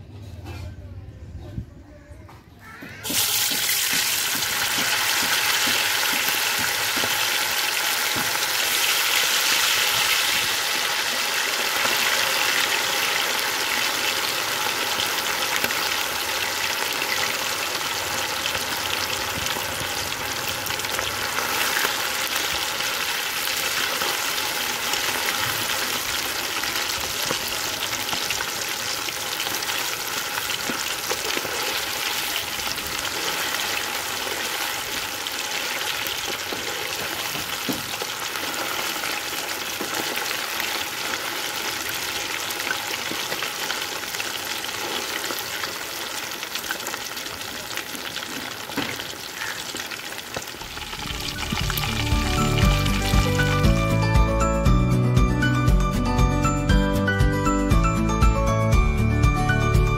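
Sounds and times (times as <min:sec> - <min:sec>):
crackles of frying: 0:02.6 - 0:54.0
oil sizzling while deep-frying: 0:03.0 - 0:54.0.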